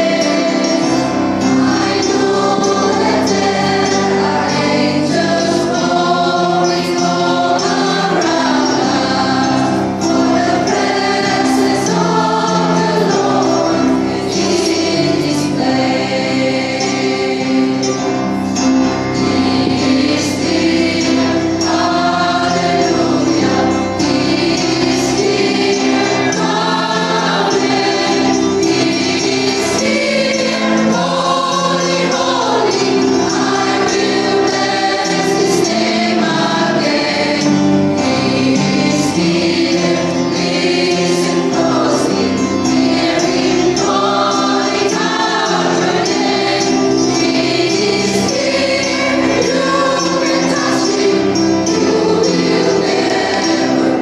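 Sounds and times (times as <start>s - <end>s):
choir singing gospel: 0.0s - 54.0s.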